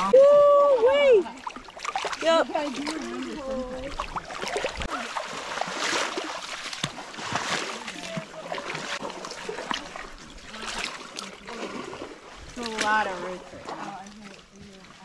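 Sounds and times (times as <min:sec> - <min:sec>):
legs wading through water: 0:00.0 - 0:15.0.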